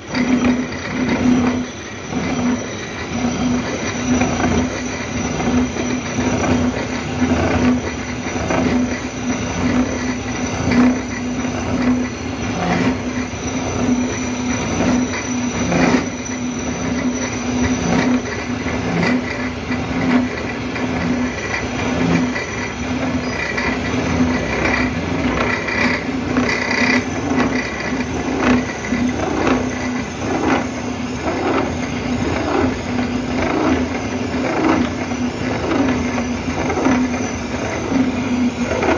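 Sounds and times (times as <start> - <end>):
metal-on-metal squeal: 0.0 - 38.9
milling machine hum: 0.0 - 38.9.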